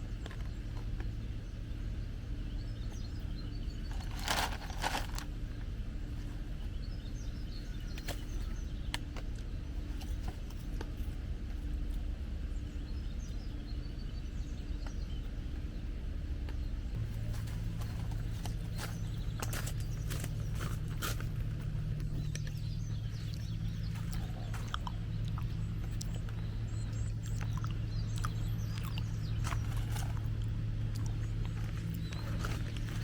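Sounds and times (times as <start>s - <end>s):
bird chirping: 0.0s - 10.6s, 12.4s - 33.0s
steady low hum: 0.0s - 33.0s.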